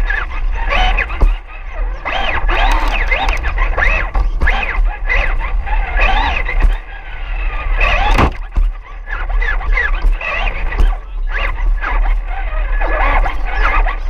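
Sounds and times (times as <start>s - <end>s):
radio-controlled car motor whining: 0.0s - 14.0s.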